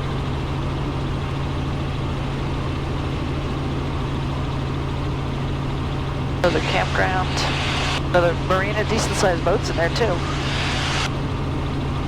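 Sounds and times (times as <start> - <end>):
helicopter engine and rotors drone: 0.0 - 12.0.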